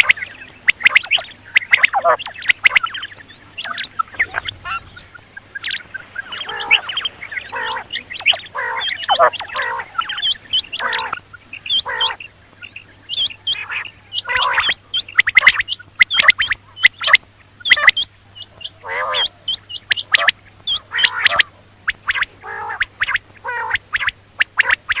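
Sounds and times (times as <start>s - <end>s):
faint steady low hum: 0.0s - 25.0s
quail calling: 0.0s - 25.0s.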